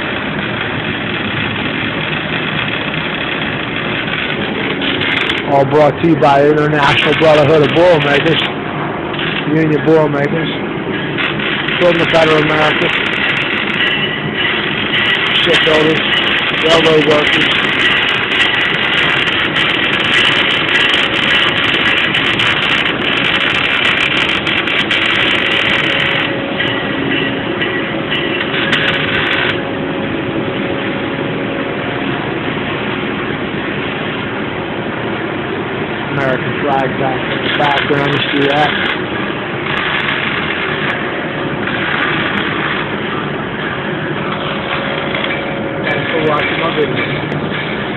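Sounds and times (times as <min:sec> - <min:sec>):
welding arc crackling: 0:00.0 - 0:31.3, 0:32.0 - 0:47.9
machinery hiss and rumble: 0:00.0 - 0:47.9.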